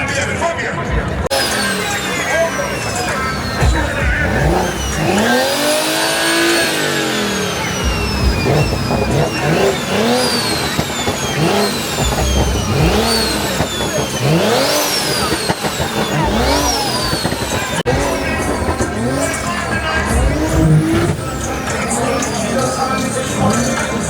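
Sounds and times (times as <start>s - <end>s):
car engine revving in blips: 0.0s - 24.0s.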